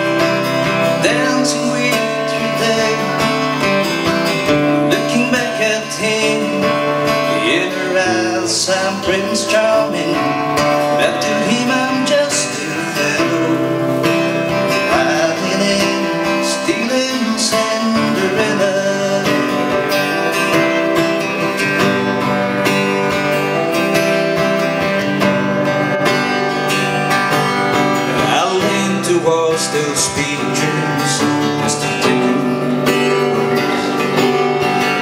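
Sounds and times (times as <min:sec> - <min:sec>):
amplified acoustic guitar strumming: 0:00.0 - 0:35.0.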